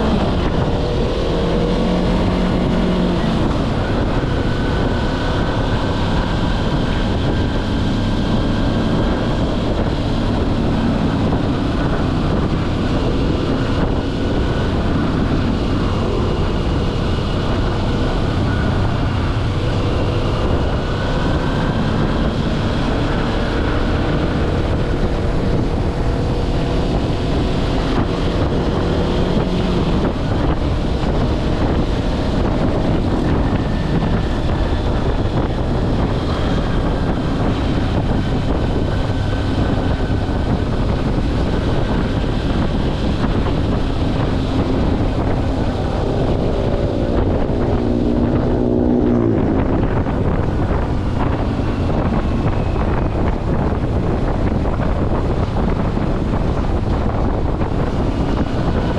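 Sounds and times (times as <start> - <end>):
motorcycle engine running: 0.0 - 58.9
wind buffeting on microphone: 0.0 - 58.9.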